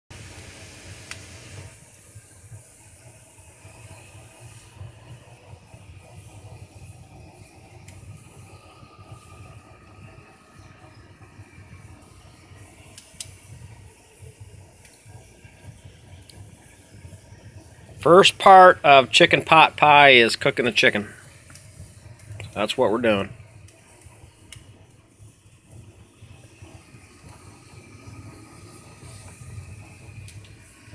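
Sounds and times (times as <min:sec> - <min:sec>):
chicken roasting hiss: 0:00.1 - 0:30.9
low uneven rumble: 0:02.4 - 0:30.9.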